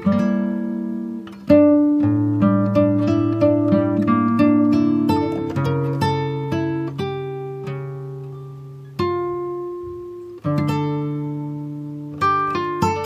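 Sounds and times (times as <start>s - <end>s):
plucked strings music: 0.0s - 13.0s.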